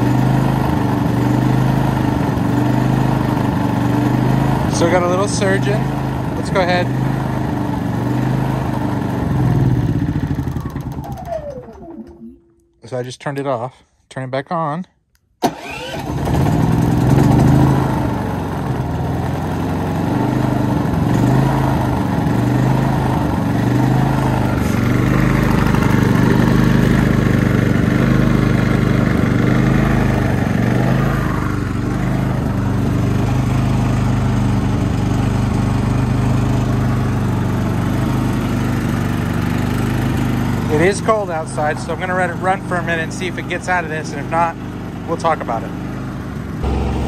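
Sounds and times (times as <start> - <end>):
generator engine surging: 0.0 - 12.5, 15.4 - 47.0.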